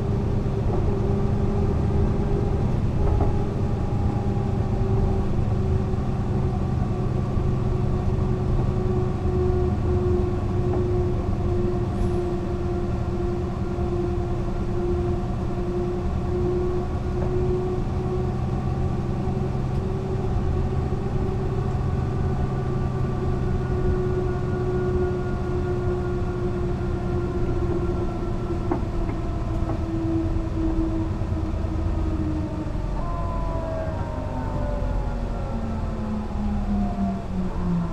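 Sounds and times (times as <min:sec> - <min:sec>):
bus engine drone: 0:00.0 - 0:37.9.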